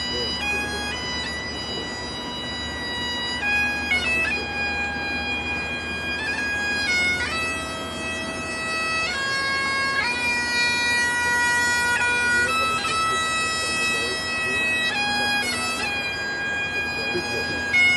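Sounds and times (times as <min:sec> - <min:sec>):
bagpipes playing slow tune: 0:00.0 - 0:17.9.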